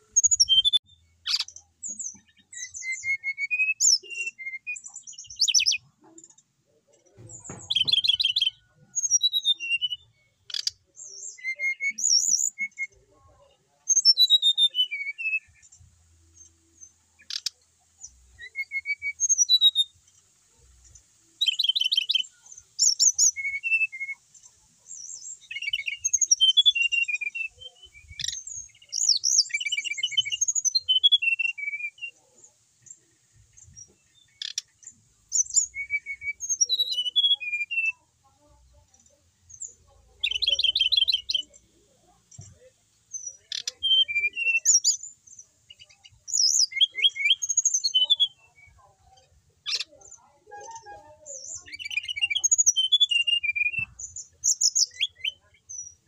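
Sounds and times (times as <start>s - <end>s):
bird singing whistled trills: 0.0s - 5.9s, 7.4s - 13.3s, 13.9s - 19.9s, 21.4s - 33.0s, 33.6s - 38.1s, 39.5s - 56.0s.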